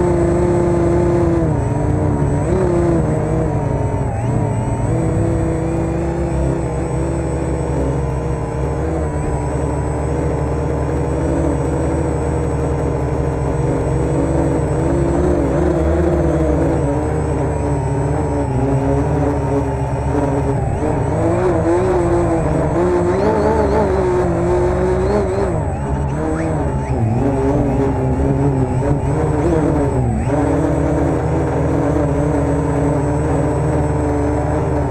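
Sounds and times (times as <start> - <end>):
quadcopter motors whining: 0.0 - 34.9.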